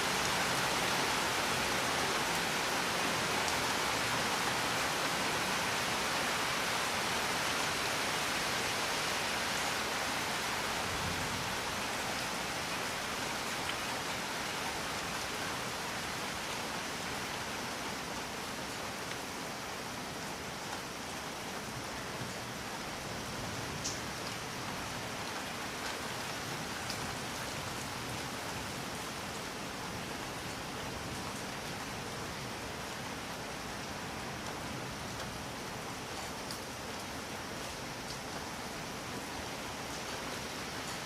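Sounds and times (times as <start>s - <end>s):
rain falling: 0.0s - 41.0s.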